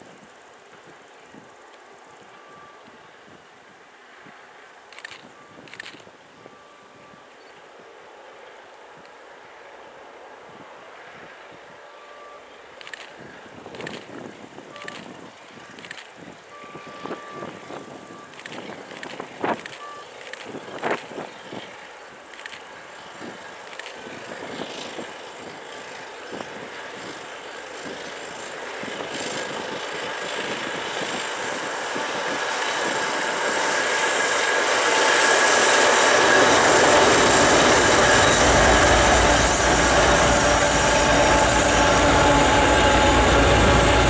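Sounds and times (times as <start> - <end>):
coaches rumbling and wheel clatter: 0.0 - 44.0
diesel locomotive engine: 0.0 - 44.0.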